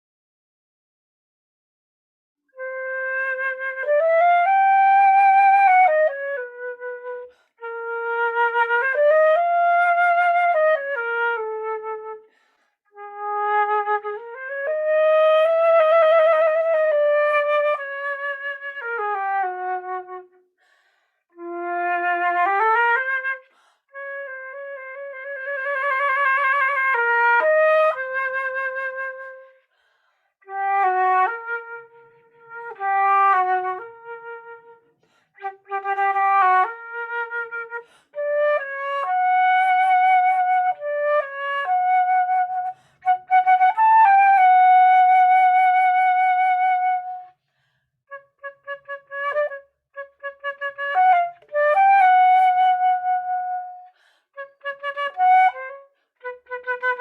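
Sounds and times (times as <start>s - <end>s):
solo flute melody: 2.5s - 20.5s, 21.3s - 29.7s, 30.4s - 47.4s, 48.0s - 57.0s.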